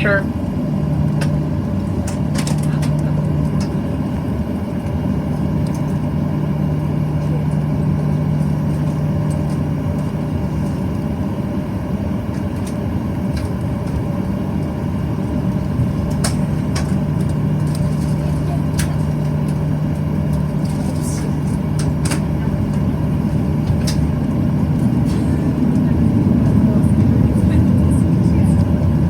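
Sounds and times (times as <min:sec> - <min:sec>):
jet engine cabin drone: 0:00.0 - 0:29.0.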